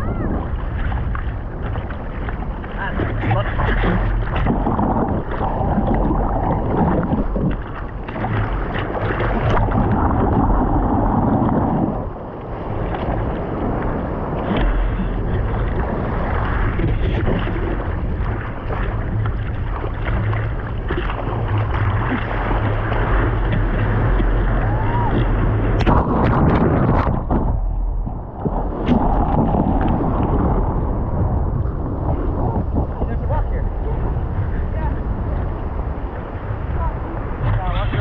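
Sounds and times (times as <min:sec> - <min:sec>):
ocean surf rushing: 0:00.0 - 0:38.0
wind noise on microphone: 0:00.0 - 0:38.0.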